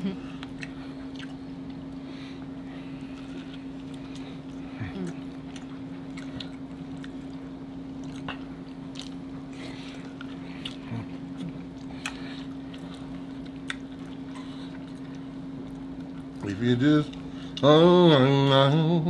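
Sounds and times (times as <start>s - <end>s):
steady low hum: 0.0s - 19.0s
wet chewing and smacking: 0.3s - 17.8s.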